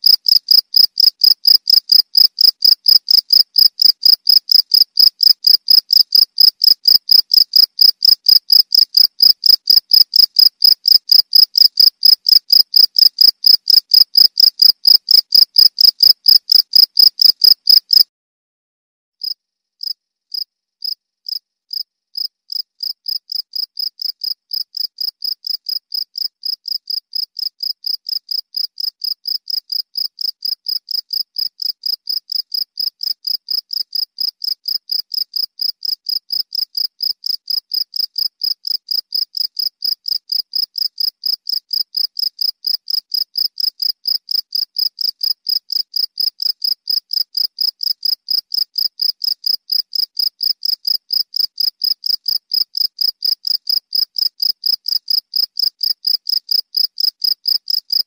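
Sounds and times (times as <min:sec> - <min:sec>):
cricket chirping: 0:00.0 - 0:18.0, 0:19.2 - 0:58.0.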